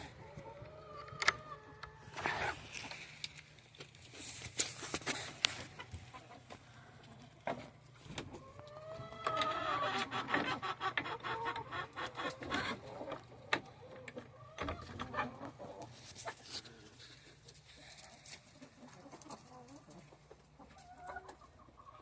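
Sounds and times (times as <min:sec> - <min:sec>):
hens clucking: 0:00.0 - 0:04.2, 0:04.9 - 0:22.0.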